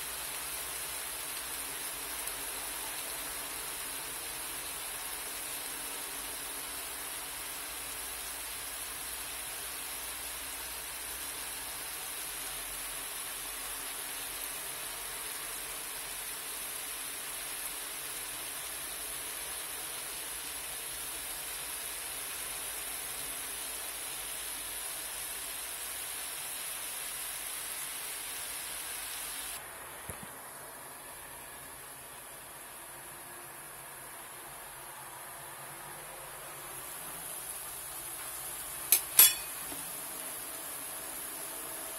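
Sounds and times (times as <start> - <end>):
vegetables sizzling in a wok: 0.0 - 41.9.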